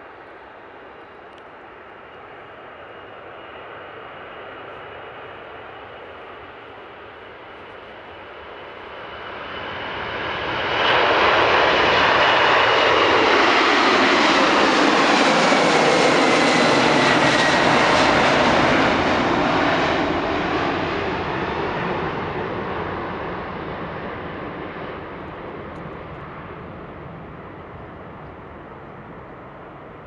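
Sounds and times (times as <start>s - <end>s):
jet engines roaring: 0.1s - 30.0s.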